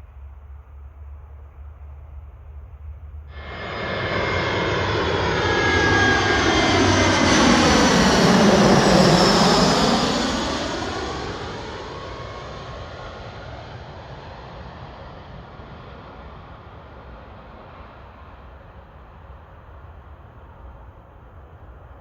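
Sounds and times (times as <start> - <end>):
jet airliner passing overhead: 3.3 - 22.0.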